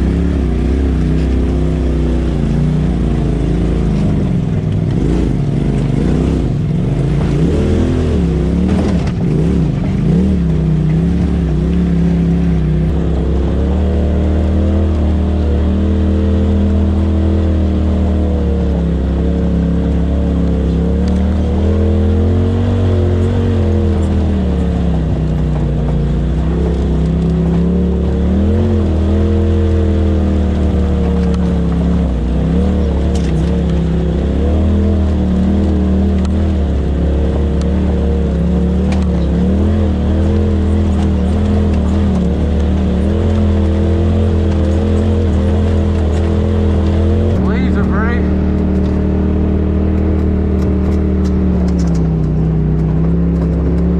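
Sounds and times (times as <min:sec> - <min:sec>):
utility vehicle engine revving: 0:00.0 - 0:53.9.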